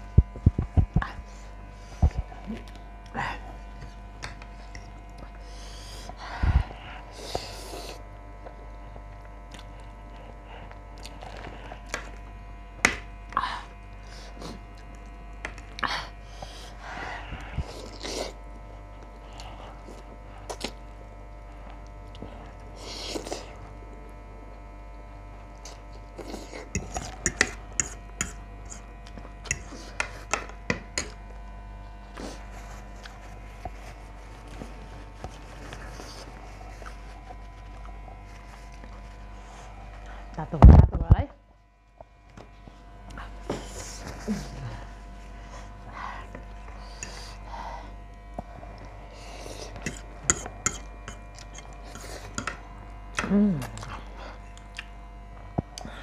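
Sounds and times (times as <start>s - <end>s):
faint hum: 0.0s - 56.0s
slurping and chewing noodles: 1.0s - 12.4s, 13.0s - 40.3s, 42.6s - 56.0s.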